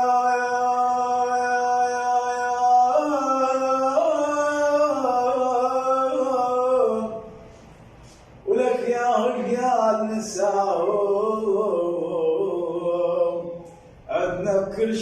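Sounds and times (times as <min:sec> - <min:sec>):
man singing chant: 0:00.0 - 0:07.3, 0:08.4 - 0:15.0.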